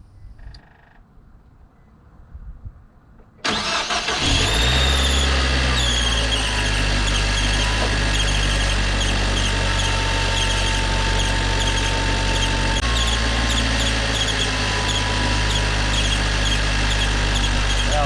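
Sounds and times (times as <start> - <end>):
car engine idling: 3.5 - 18.0.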